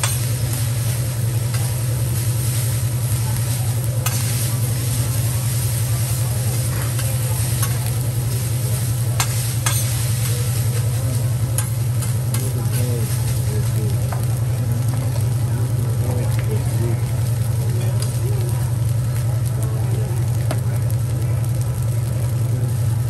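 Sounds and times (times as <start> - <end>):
rice sizzling on griddle: 0.0 - 23.0
steady low hum: 0.0 - 23.0.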